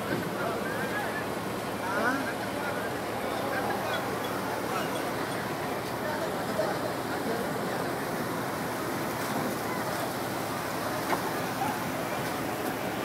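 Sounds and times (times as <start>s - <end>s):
faint distant voices: 0.0s - 13.0s
rushing water: 0.0s - 13.0s.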